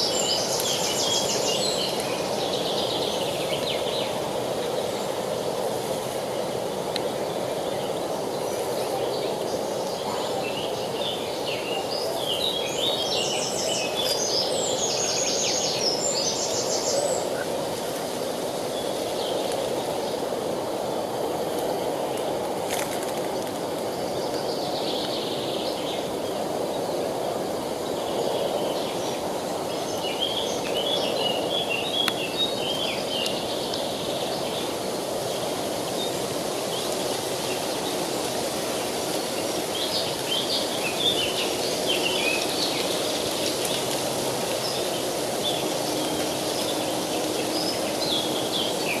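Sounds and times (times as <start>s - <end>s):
river water rushing: 0.0s - 49.0s
songbirds chirping: 0.0s - 49.0s.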